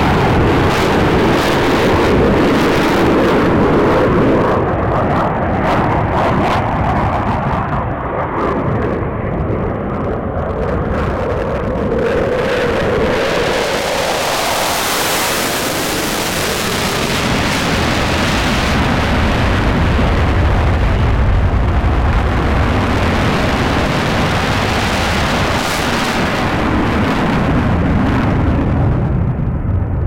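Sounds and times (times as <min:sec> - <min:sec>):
loud jet noise: 0:00.0 - 0:30.0.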